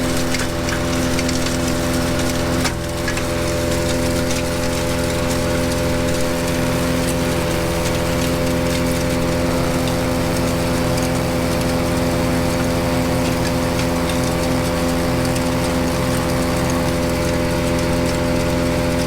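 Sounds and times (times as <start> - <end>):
wood chipper running: 0.0 - 19.0.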